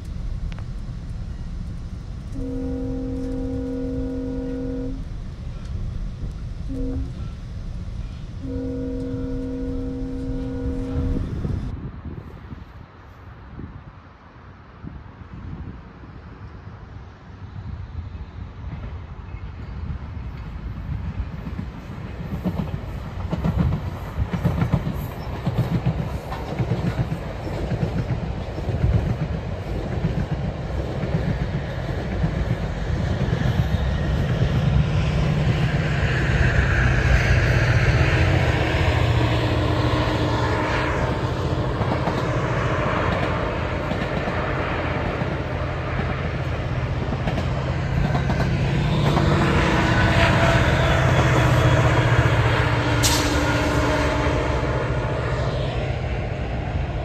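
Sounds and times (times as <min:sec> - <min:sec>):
diesel locomotive drone: 0:00.0 - 0:57.0.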